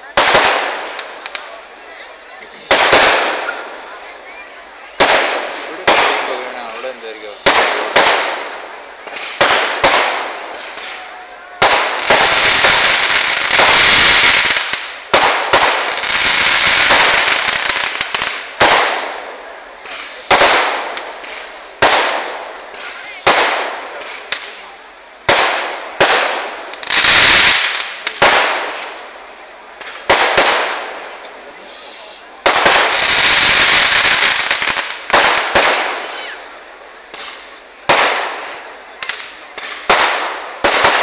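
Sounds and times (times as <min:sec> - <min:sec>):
fireworks banging: 0:00.0 - 0:41.0
fireworks hissing crackle: 0:00.0 - 0:41.0.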